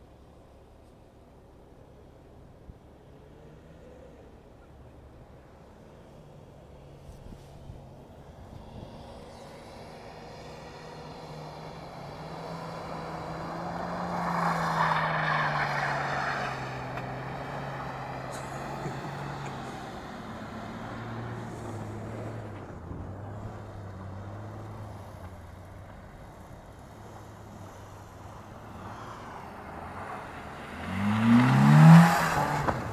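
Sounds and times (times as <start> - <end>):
car passing rush of noise: 5.2 - 32.9
car engines at high revs: 5.7 - 32.9.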